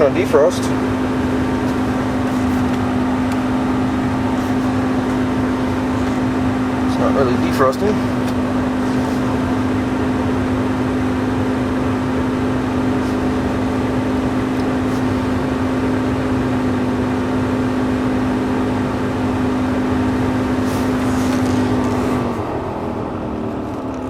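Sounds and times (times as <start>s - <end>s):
blower motor humming: 0.0s - 24.0s.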